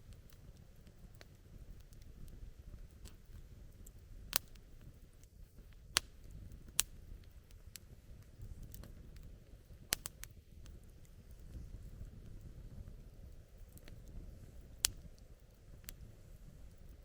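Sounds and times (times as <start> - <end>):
campfire pops and snaps: 0.0 - 17.0
low steady fire rumble: 0.0 - 17.0.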